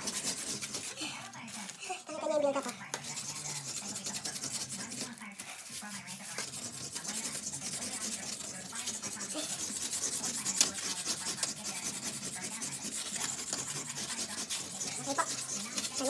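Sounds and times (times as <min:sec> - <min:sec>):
scouring stick scraping stovetop: 0:00.0 - 0:16.0.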